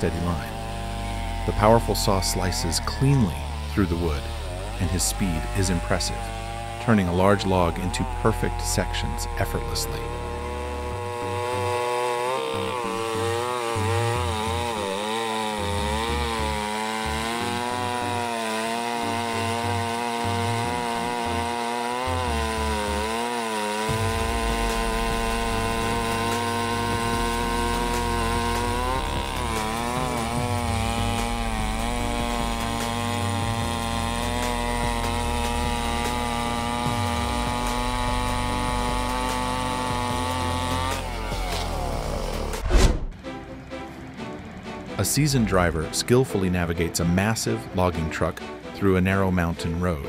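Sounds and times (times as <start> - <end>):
chainsaw cutting log: 0.0 - 43.9.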